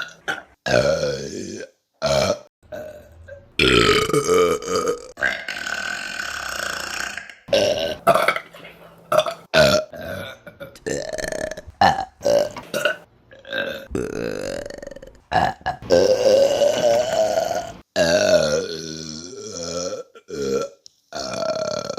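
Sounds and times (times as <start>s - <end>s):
women burping: 0.0s - 21.9s.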